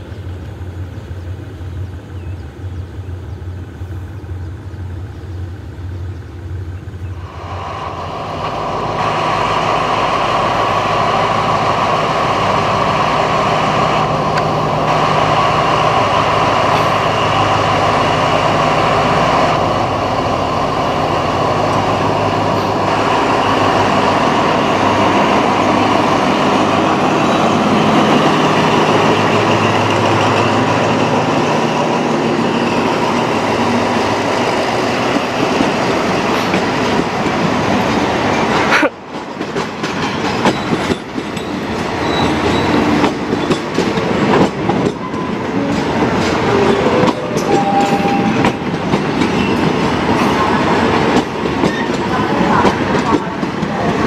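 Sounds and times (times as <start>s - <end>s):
diesel locomotive engine passing: 0.0s - 54.0s
distant train drone: 0.0s - 54.0s.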